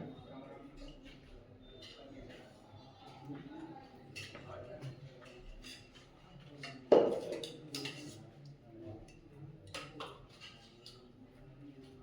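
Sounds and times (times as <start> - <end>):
faint murmur of voices: 0.0 - 12.0.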